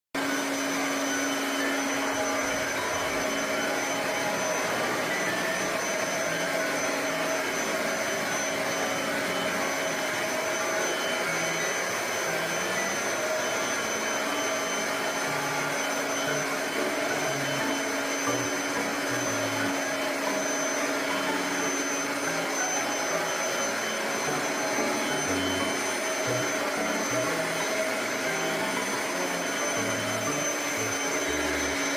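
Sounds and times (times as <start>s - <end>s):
vacuum cleaner running: 0.2s - 31.9s.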